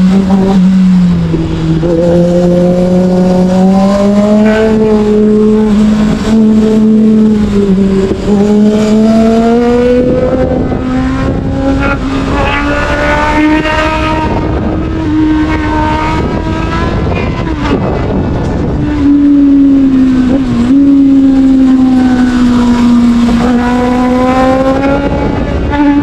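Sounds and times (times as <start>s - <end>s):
motorcycle engine revving: 0.0s - 26.0s
rushing wind noise: 0.0s - 26.0s.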